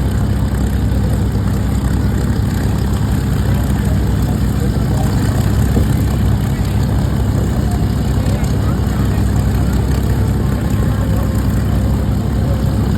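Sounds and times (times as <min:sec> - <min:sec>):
propeller aircraft engine drone: 0:00.0 - 0:12.9.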